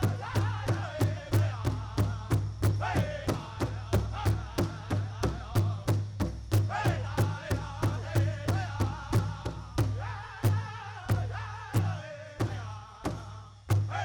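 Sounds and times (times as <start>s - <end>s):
large bass drum beating: 0.0s - 14.0s.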